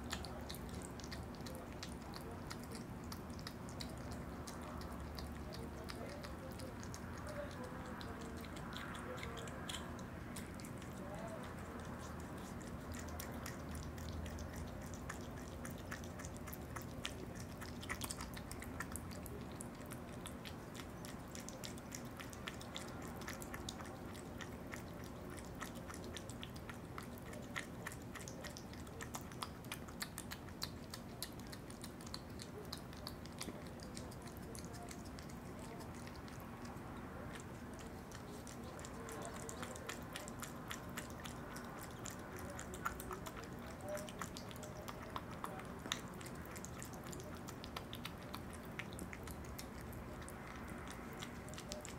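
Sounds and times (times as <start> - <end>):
opossum chewing and smacking: 0.0 - 51.9.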